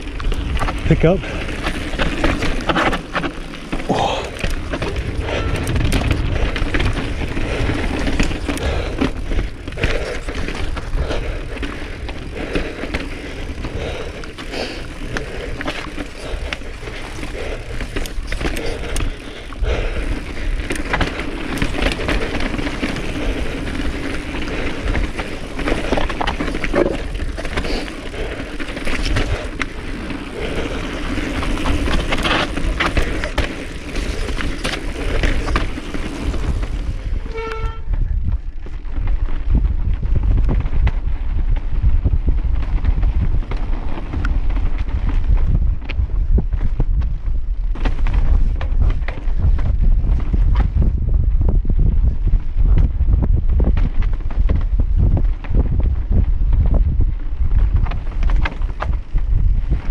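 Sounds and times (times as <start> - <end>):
bike knocks and rattles: 0.0 - 59.9
bike tyres rumbling over rock: 0.0 - 59.9.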